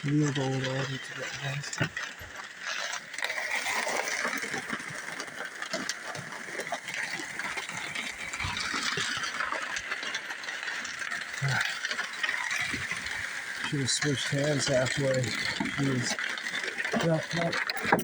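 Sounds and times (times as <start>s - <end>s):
sled scraping over ground: 0.0s - 18.0s.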